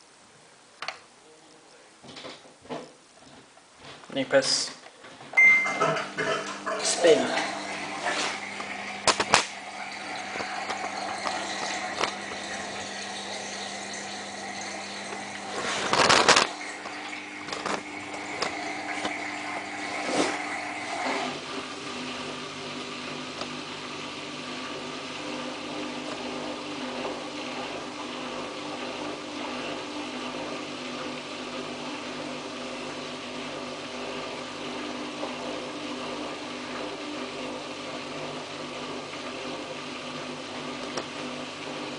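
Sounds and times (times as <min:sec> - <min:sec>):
washing machine motor and pump: 0:03.8 - 0:41.9.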